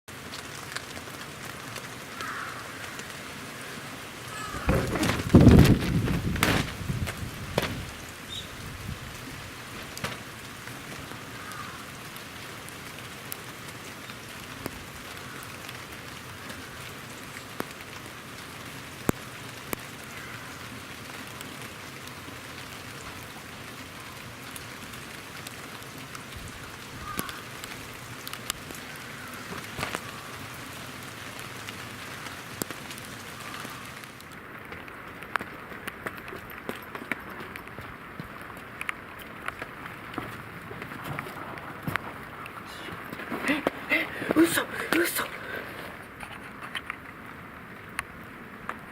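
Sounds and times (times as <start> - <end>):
raindrops clicking on microphone: 0.1 - 48.9
steady rain: 0.1 - 48.9.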